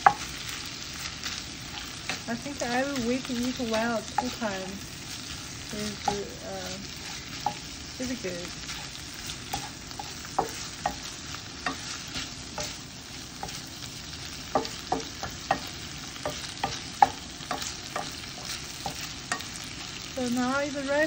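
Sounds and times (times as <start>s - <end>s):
spatula scraping a pan: 0.0s - 20.2s
food sizzling in a frying pan: 0.0s - 21.0s.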